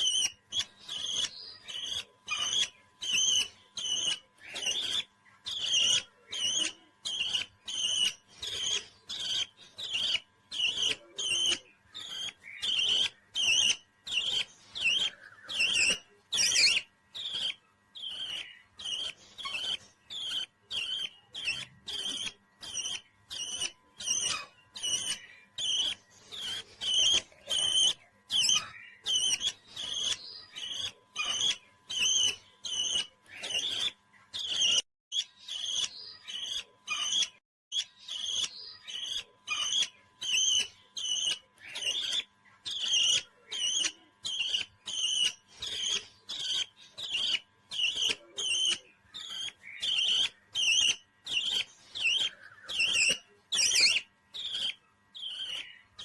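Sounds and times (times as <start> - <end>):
parrot chirping shrill calls: 0.0 - 56.0.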